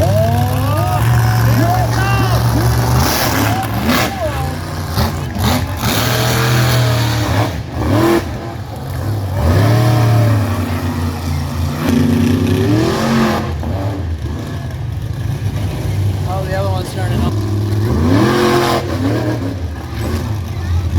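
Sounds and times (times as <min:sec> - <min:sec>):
monster truck engine revving: 0:00.0 - 0:20.9.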